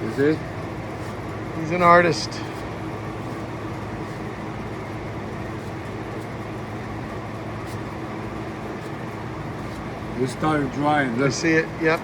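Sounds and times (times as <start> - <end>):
electric fans humming: 0.0 - 12.0.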